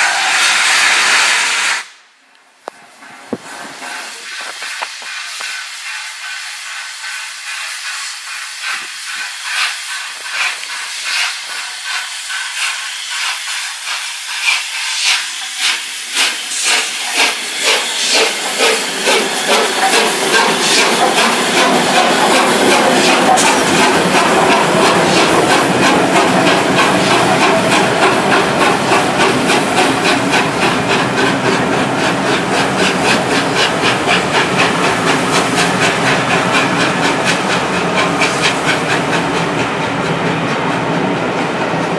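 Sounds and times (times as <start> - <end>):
hissing steam: 0.0 - 2.1, 2.7 - 41.9
steam locomotive exhaust beats: 0.0 - 41.9.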